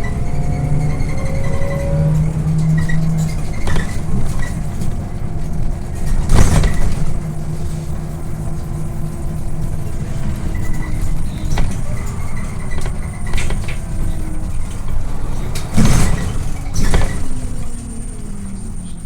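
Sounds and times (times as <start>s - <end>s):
bus engine and road rumble: 0.0s - 19.0s
loud jolt and rattle: 2.2s - 18.2s.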